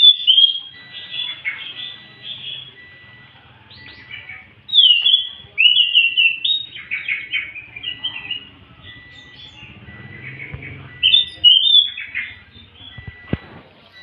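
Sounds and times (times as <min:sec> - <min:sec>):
thrush singing whistled phrases: 0:00.0 - 0:13.4.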